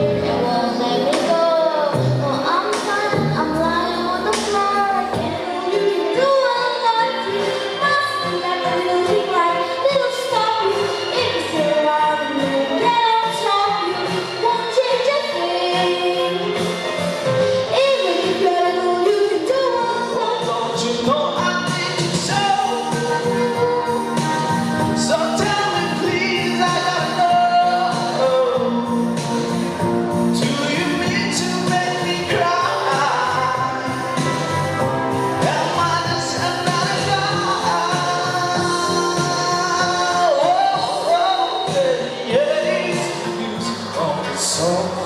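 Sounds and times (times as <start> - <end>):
instrumental backing with beat: 0.0 - 45.0
person singing: 0.0 - 45.0.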